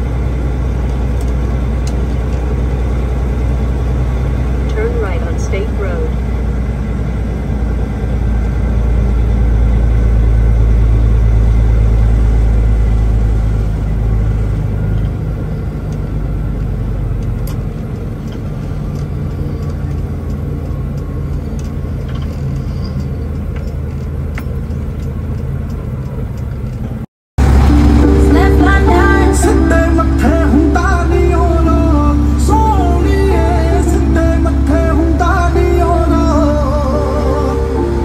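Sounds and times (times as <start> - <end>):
truck engine rumbling: 0.0 - 38.0.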